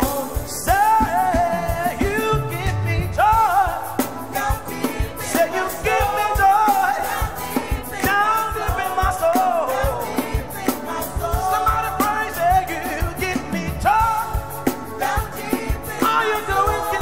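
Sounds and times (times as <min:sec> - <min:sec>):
band with steady drum beat: 0:00.0 - 0:17.0
lead singer and choir singing: 0:00.0 - 0:17.0.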